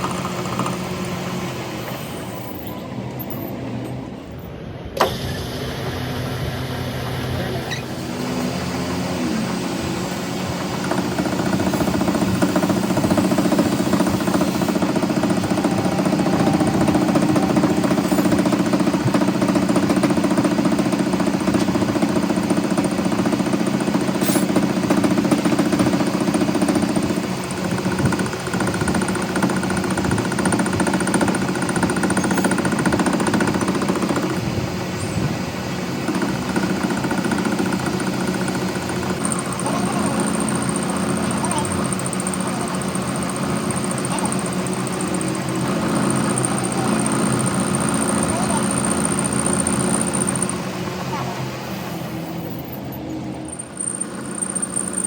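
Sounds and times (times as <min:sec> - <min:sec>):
workshop machinery rattling: 0:09.9 - 0:55.0.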